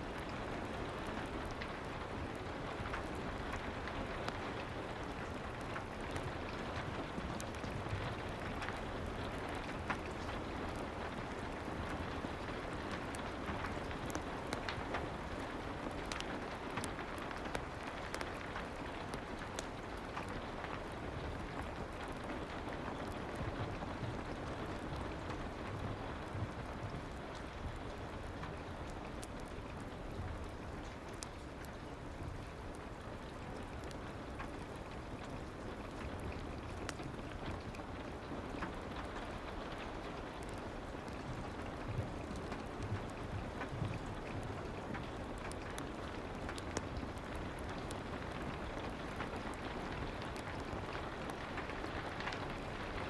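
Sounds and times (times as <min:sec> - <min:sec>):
fireplace crackles: 0:00.0 - 0:53.0
soft rain: 0:00.0 - 0:53.0.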